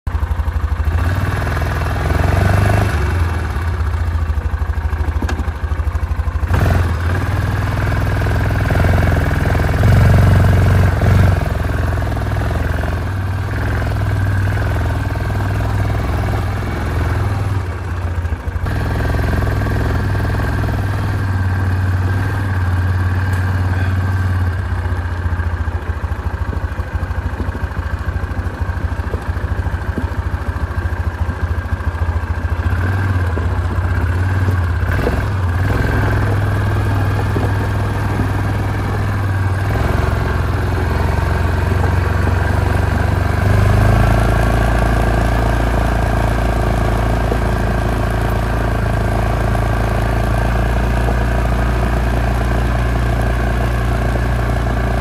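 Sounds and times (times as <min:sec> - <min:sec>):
atv engine running: 0:00.1 - 0:55.0.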